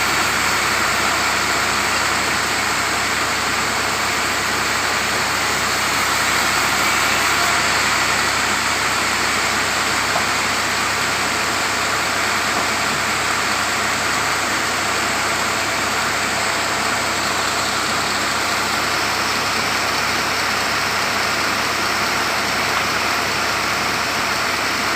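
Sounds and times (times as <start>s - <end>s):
sawmill machinery running: 0.0s - 24.9s.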